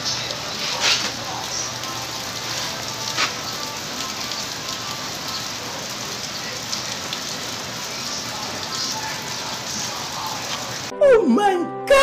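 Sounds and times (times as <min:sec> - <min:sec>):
rain falling on street: 0:00.0 - 0:10.9.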